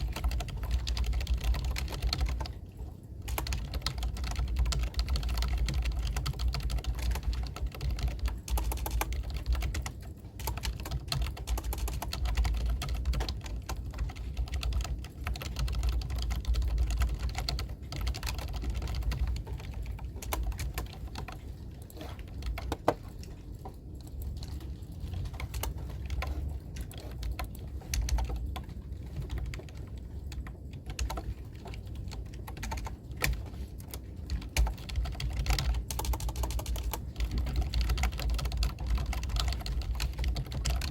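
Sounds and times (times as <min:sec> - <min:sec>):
keyboard typing: 0:00.0 - 0:40.9
steady low rumble: 0:00.0 - 0:40.9.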